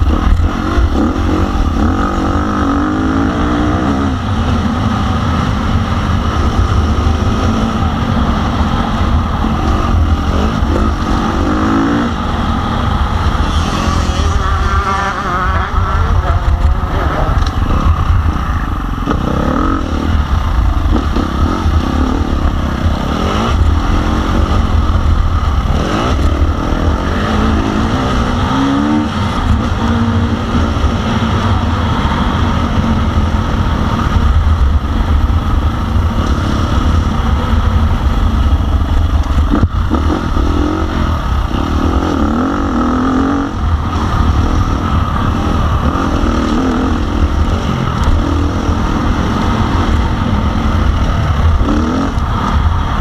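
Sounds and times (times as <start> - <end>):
motorbike engine revving: 0.0 - 53.0
wind rumble on microphone: 0.0 - 53.0.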